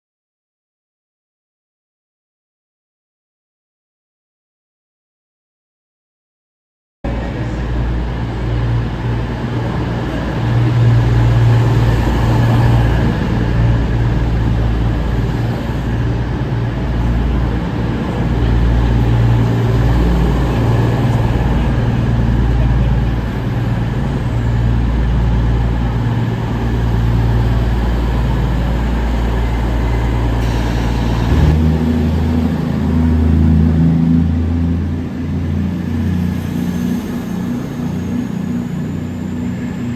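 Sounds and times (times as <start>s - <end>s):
train engine droning: 7.1s - 39.9s.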